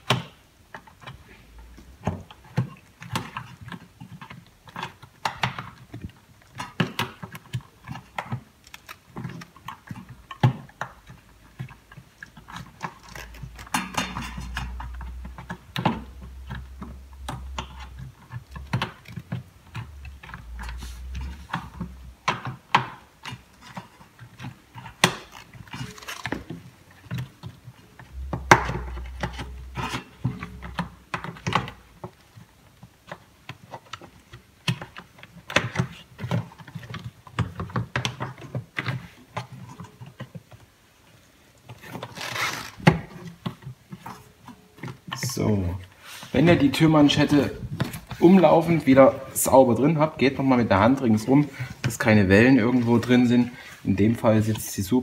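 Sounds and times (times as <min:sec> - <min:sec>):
rubber rubbing on plastic and metal: 0:00.7 - 0:55.0.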